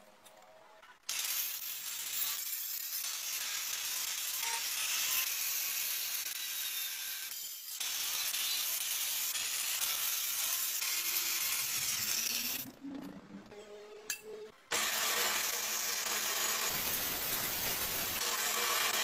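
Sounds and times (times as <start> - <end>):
angle grinder grinding steel: 1.1 - 12.7, 14.7 - 19.0.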